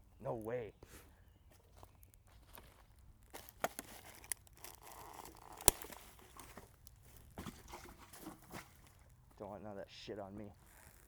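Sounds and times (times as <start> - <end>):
litter rustling and crunching: 0.0 - 9.5.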